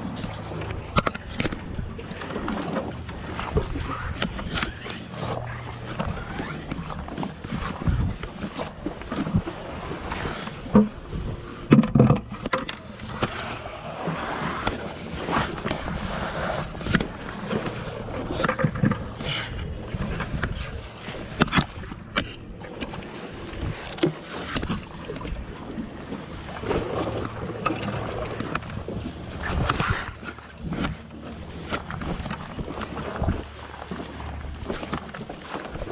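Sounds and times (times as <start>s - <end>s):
sea water washing: 0.0s - 35.9s
wind: 0.0s - 35.9s.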